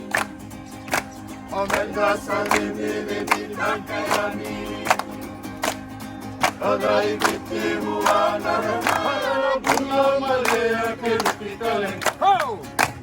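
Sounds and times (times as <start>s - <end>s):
group of voices singing in chorus: 0.0s - 13.0s
rhythmic claps: 0.0s - 13.0s.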